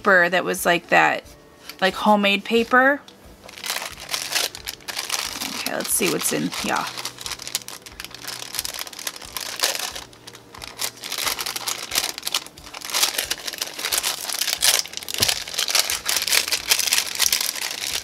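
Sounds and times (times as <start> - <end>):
paper envelope rustling: 3.5 - 18.0.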